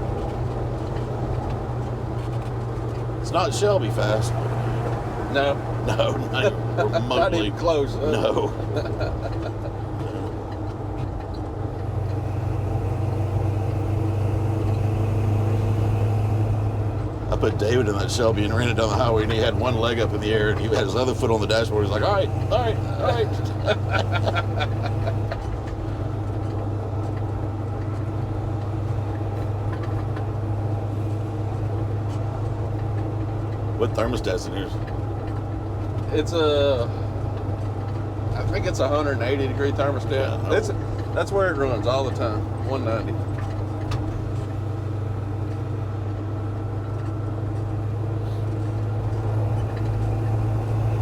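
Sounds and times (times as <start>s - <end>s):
car engine droning: 0.0s - 51.0s
road noise: 0.0s - 51.0s.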